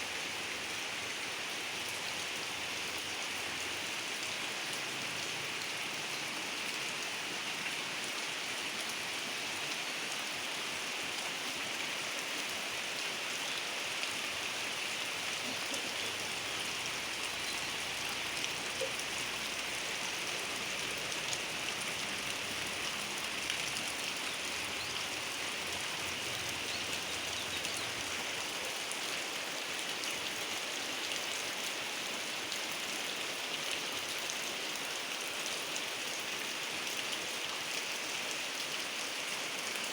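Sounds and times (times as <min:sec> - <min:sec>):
heavy rain falling: 0:00.2 - 0:39.9.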